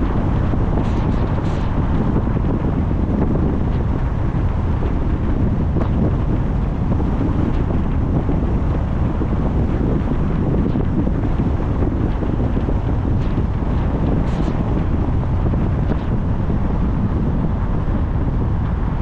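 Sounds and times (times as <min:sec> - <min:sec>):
car wind and road noise: 0:00.0 - 0:19.0
wind buffeting microphone: 0:00.0 - 0:19.0.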